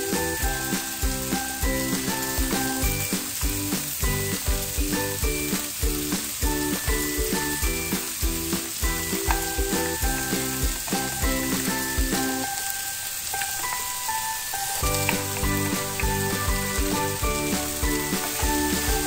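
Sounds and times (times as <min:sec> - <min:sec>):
background music with beat: 0:00.0 - 0:12.6, 0:14.8 - 0:19.0
food sizzling in a skillet: 0:00.0 - 0:19.0.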